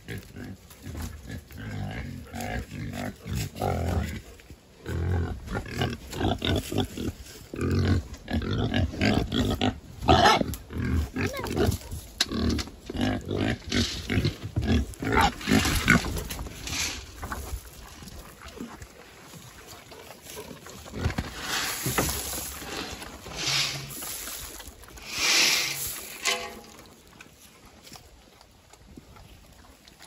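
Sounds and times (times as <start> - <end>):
pigs grunting: 0.0 - 17.4, 18.2 - 26.8.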